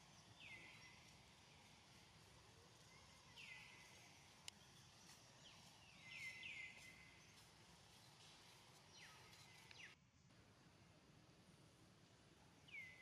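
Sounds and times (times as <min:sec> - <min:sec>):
faint forest ambience: 0:00.0 - 0:13.0.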